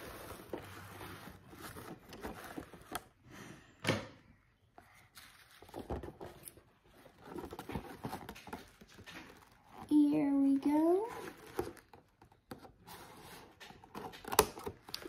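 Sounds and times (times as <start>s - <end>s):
cardboard box rustling: 0.0s - 3.2s, 5.2s - 15.0s.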